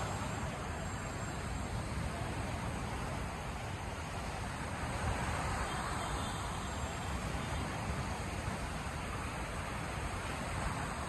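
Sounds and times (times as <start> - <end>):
sea surf: 0.0 - 11.0
wind: 0.0 - 11.0.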